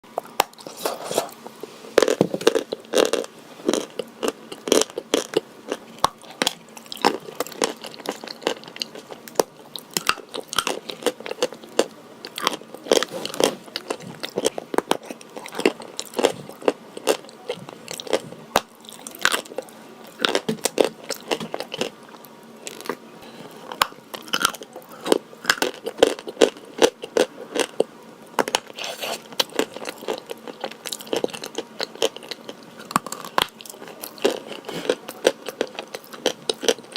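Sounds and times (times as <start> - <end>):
chalk crunching being chewed: 0.3 - 23.0, 23.6 - 36.9.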